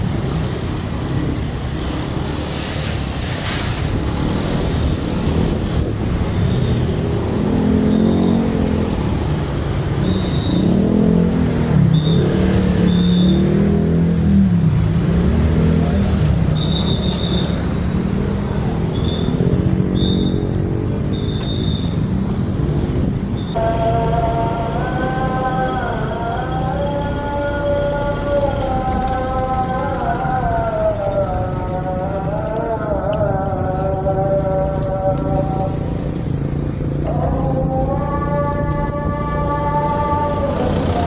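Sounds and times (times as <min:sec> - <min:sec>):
motorbike engines accelerating: 0:00.0 - 0:41.0
wind and road noise rumble: 0:00.0 - 0:41.0.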